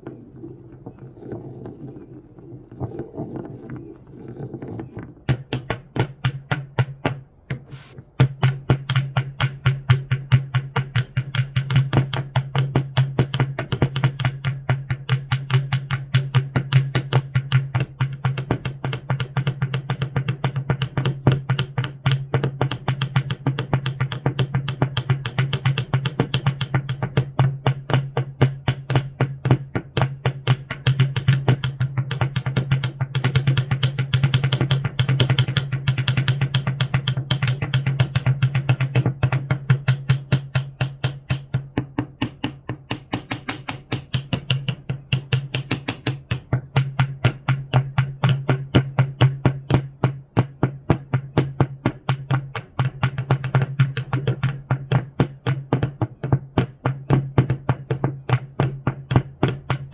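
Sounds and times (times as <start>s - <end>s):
rapid percussive knocks: 8.2s - 59.9s.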